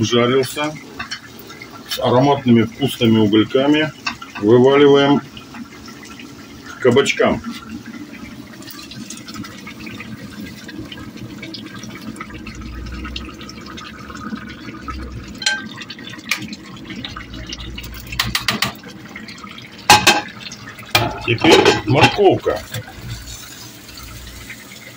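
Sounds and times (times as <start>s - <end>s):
pot bubbling: 0.0s - 24.9s.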